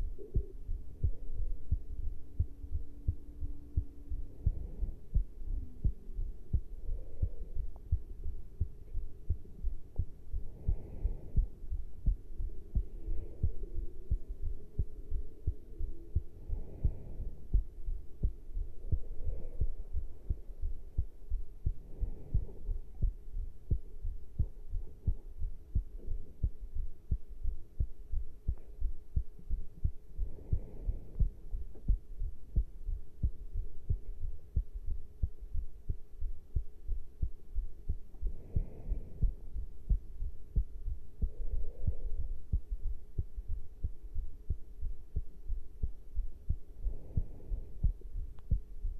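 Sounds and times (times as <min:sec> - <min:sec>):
faint steady hum: 0:00.0 - 0:48.9
heartbeat thudding: 0:00.0 - 0:48.9.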